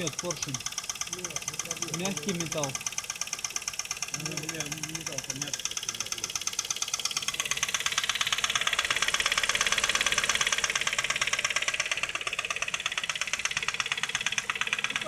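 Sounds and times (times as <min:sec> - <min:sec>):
car engine running: 0:00.0 - 0:15.0
metallic knocking in engine: 0:00.0 - 0:15.0.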